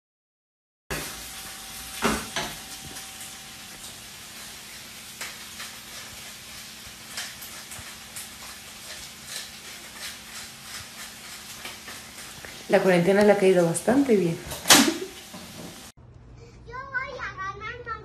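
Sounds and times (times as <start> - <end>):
crackles and pops of frying: 0.9 - 15.9
food sizzling in a pan: 0.9 - 16.0.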